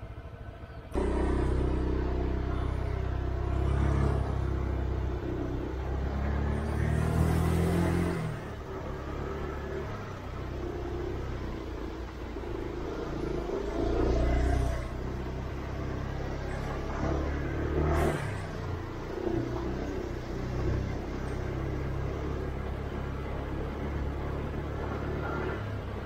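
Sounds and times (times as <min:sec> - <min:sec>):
road and wind rumble: 0:00.0 - 0:26.0
scooter engine running: 0:00.0 - 0:26.0.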